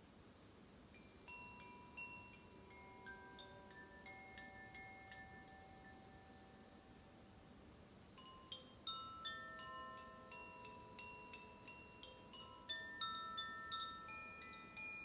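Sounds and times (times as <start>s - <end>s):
wind chime ringing: 1.0s - 15.0s.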